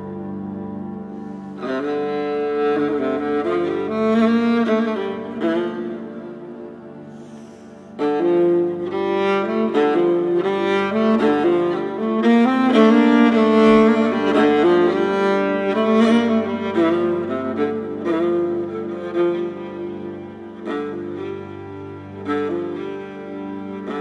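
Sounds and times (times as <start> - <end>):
instrumental music with held notes: 0.0 - 24.0.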